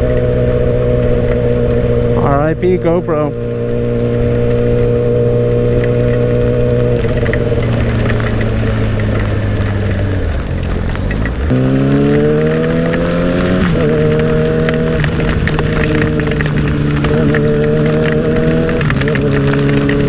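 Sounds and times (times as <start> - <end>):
motorcycle engine revving: 0.0 - 20.0
wind noise: 0.0 - 20.0
rain ticking on camera: 3.4 - 20.0.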